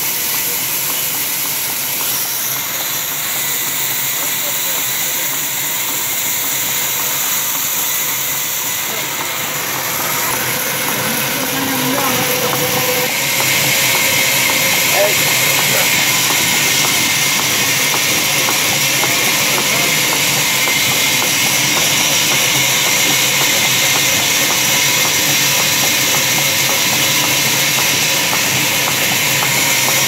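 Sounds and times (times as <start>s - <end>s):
band saw running: 0.0s - 30.0s.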